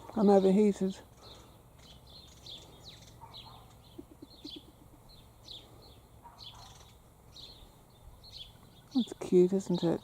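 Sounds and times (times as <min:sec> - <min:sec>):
birds chirping faintly: 0:00.0 - 0:10.0.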